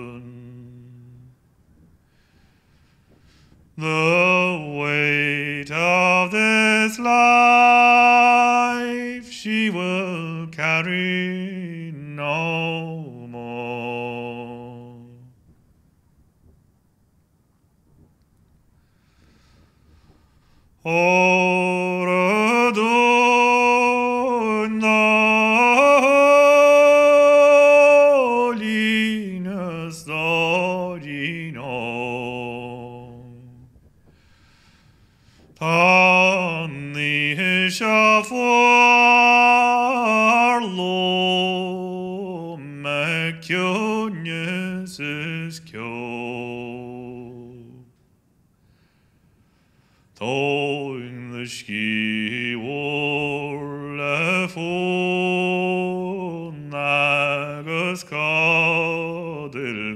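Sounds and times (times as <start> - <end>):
man singing slow melody: 0.0 - 1.5, 2.1 - 15.4, 19.0 - 48.1, 50.1 - 59.9.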